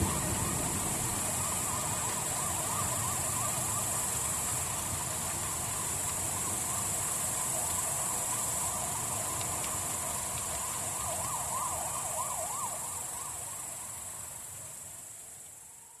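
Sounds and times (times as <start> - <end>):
faint siren wailing: 0.0 - 16.0
steady high hiss: 0.0 - 16.0.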